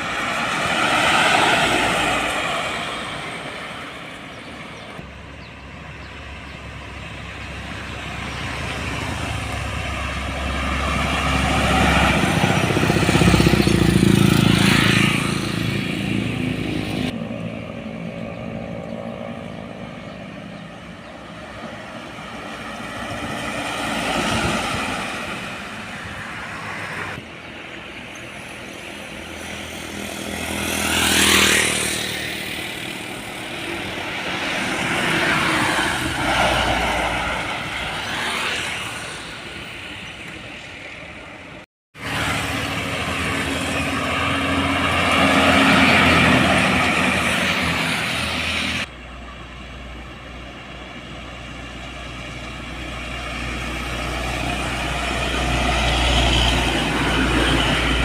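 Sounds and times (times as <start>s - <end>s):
heavy trucks driving past: 0.0s - 58.0s.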